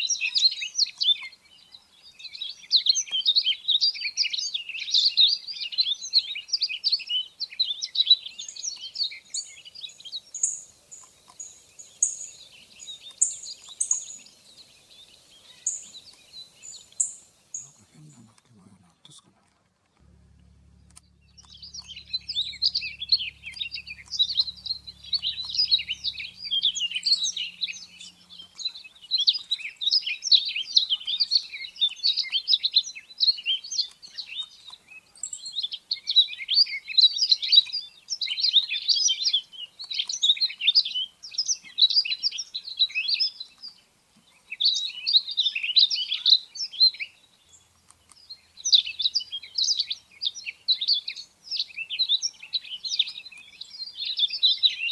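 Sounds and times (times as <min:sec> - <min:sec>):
bird warbling song: 0:00.0 - 0:18.4, 0:20.2 - 0:54.9.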